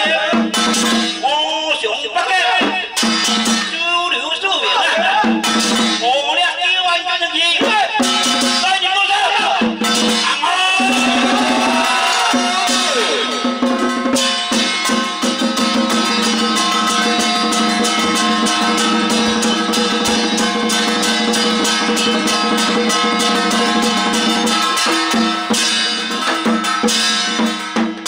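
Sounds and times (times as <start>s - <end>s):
drums and gongs beating: 0.0s - 28.0s.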